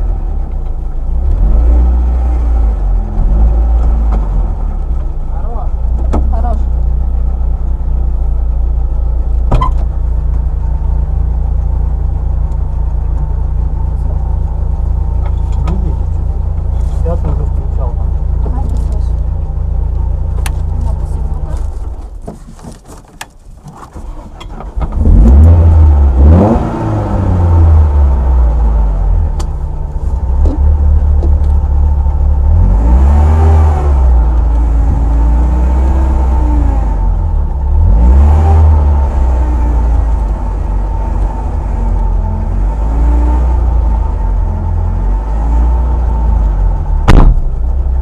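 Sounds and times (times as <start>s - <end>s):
car engine revving: 0.0s - 22.2s, 24.0s - 48.0s.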